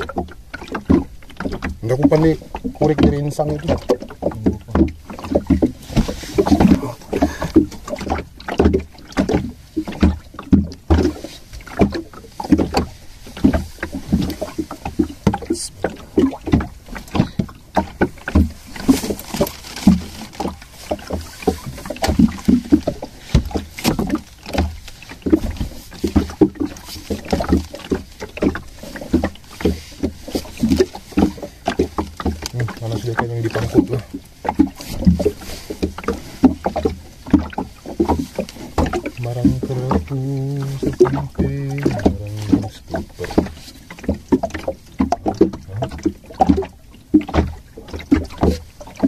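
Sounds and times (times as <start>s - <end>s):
water slapping against boat hull: 0.0s - 49.0s.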